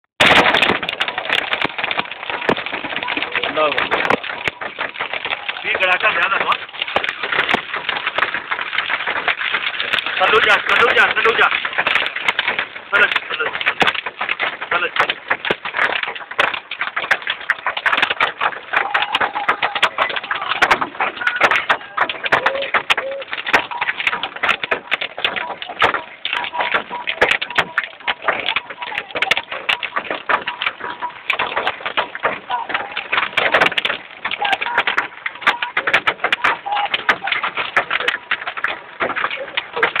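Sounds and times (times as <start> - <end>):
heavy rain on car roof: 0.1 - 40.0.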